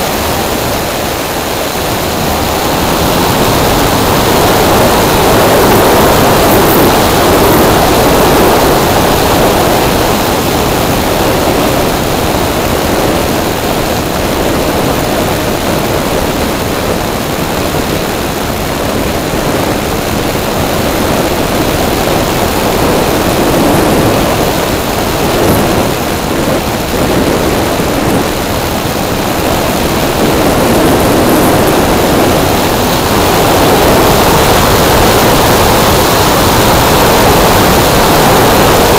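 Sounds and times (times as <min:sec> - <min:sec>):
air rushing over microphone: 0:00.0 - 0:38.9
spinning propeller noise: 0:00.0 - 0:38.9.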